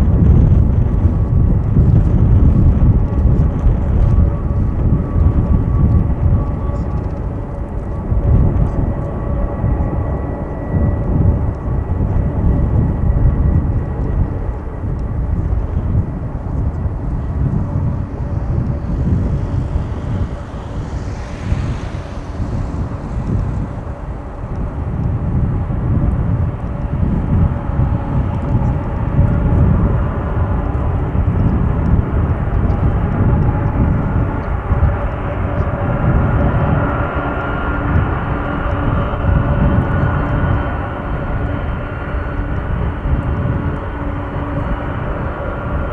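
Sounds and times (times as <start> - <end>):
jet engines rumbling with whine: 0.0 - 45.9.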